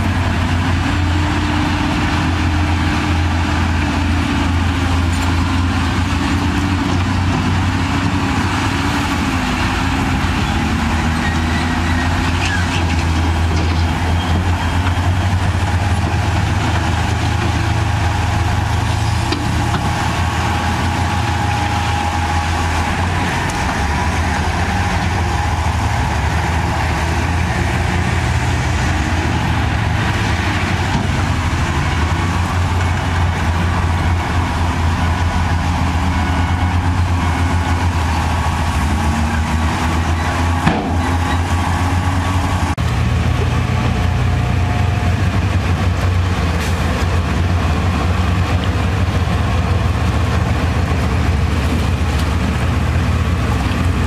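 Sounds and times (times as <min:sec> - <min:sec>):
heavy diesel engine rumbling: 0:00.0 - 0:54.0.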